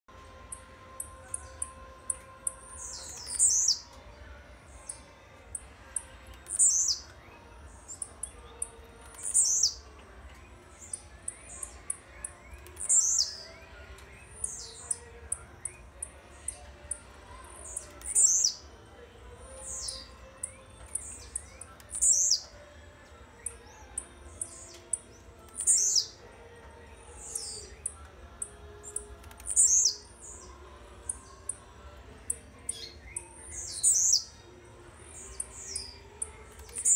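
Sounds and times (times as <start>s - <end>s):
bird singing buzzy notes: 0.1s - 36.9s.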